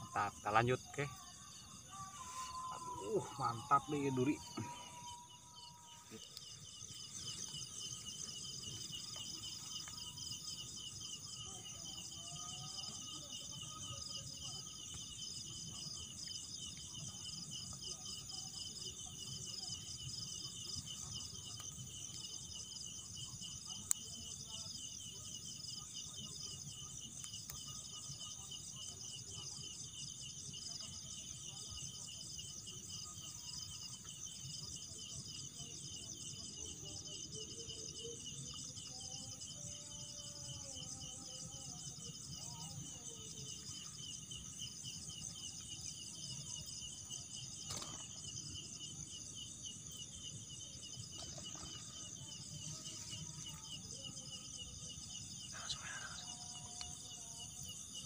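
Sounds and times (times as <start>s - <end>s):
crickets and insects trilling: 0.0s - 58.0s.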